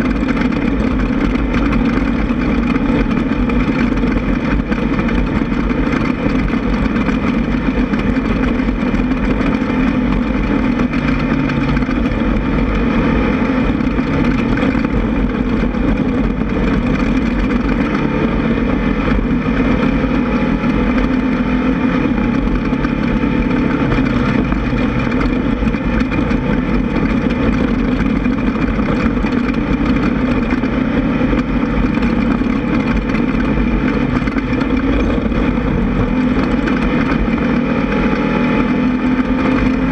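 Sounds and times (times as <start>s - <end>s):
engine running loud: 0.0s - 39.9s.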